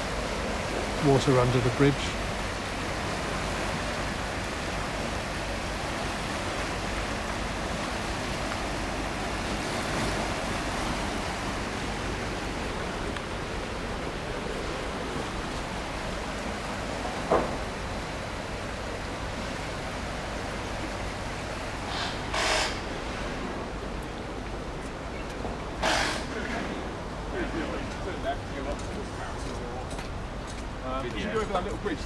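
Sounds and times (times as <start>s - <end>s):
floodwater rushing under a bridge: 0.0s - 32.0s.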